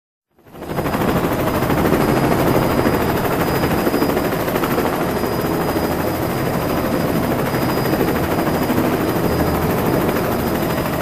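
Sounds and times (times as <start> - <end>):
small aircraft engine and propeller: 0.3 - 11.0.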